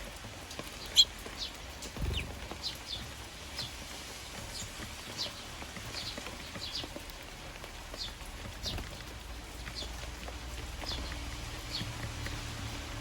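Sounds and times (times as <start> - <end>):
rain pattering: 0.0 - 13.0
sparrows chirping: 0.4 - 13.0.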